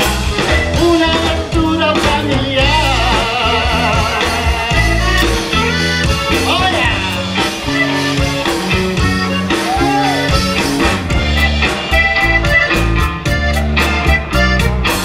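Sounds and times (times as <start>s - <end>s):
button accordion melody: 0.0s - 15.0s
drums: 0.0s - 15.0s
electric bass: 0.0s - 15.0s
guitar: 0.0s - 15.0s.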